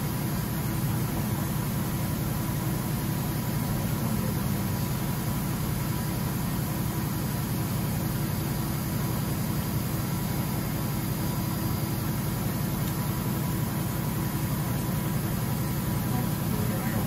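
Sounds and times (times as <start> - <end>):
machine spindle humming and whining: 0.0 - 17.0.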